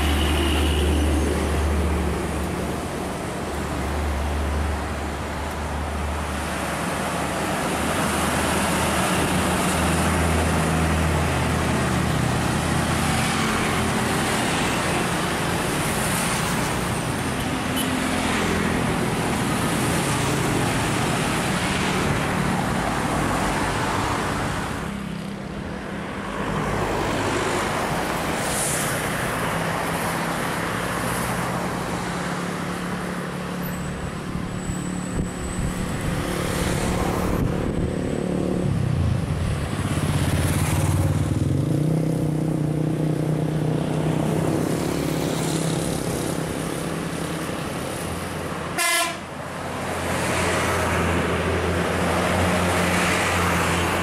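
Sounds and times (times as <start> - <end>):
motorcycles passing: 0.0 - 33.4, 35.1 - 54.0
cars passing: 0.0 - 54.0
large buses passing: 0.0 - 54.0.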